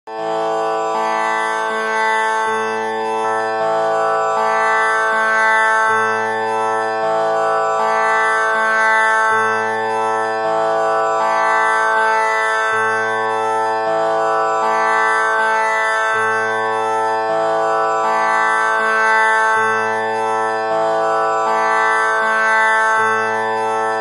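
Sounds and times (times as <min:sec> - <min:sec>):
tanpura drone: 0:00.2 - 0:24.0.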